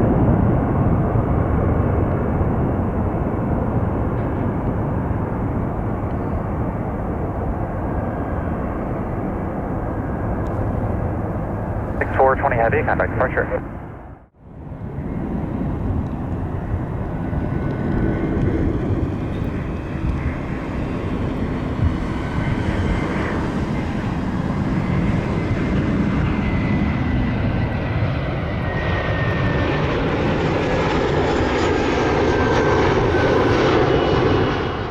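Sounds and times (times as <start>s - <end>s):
jet engines rumbling with whine: 0.0s - 34.9s.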